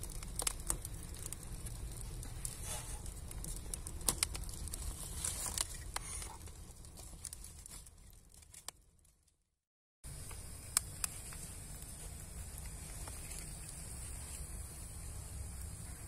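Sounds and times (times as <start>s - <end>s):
wood fire crackling: 0.0s - 9.5s, 10.1s - 16.0s.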